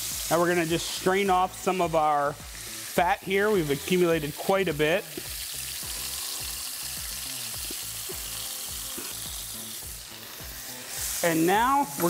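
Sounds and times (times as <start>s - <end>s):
patties sizzling in frying pan: 0.0s - 12.0s.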